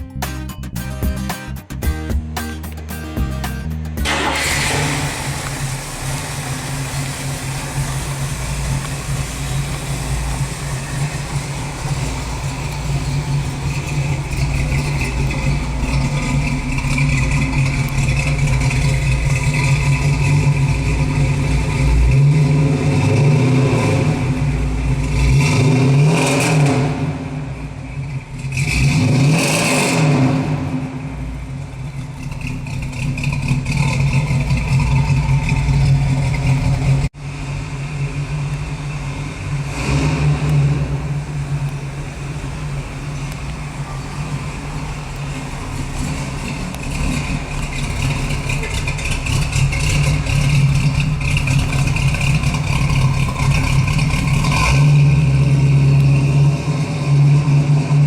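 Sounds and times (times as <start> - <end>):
car engine running: 0.0 - 29.3, 30.1 - 58.0.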